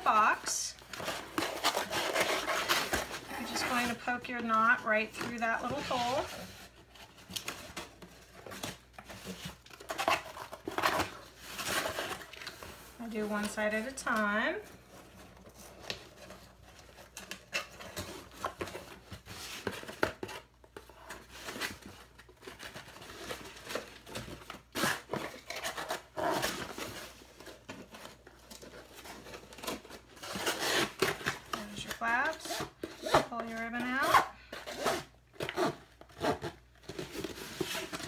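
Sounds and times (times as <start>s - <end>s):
cardboard rustling and scraping: 0.1s - 38.0s.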